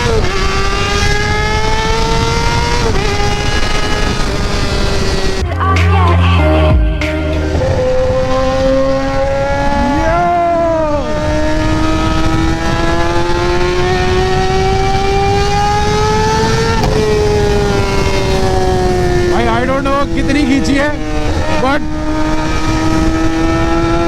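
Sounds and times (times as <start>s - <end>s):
motorcycle engine accelerating: 0.0s - 5.5s, 6.6s - 24.0s.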